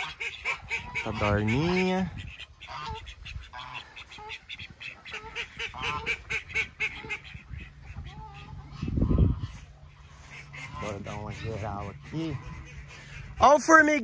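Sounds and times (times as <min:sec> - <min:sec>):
ducks quacking: 0:00.0 - 0:14.0
geese honking: 0:00.0 - 0:14.0.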